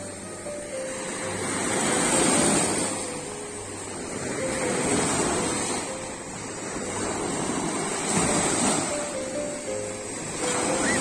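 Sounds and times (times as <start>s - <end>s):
faint melody: 0.0s - 11.0s
surf washing up a beach: 0.0s - 11.0s.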